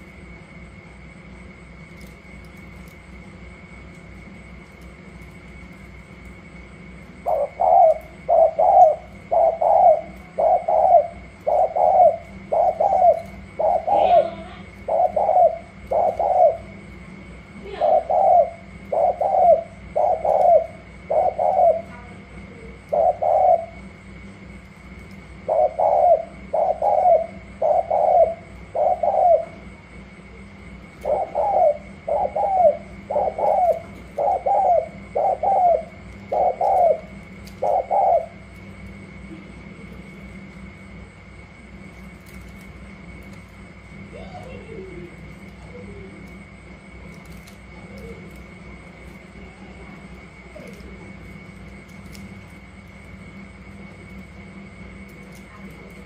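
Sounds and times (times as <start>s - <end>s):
doves cooing: 0.0s - 56.0s
faint steady high tone: 7.0s - 56.0s.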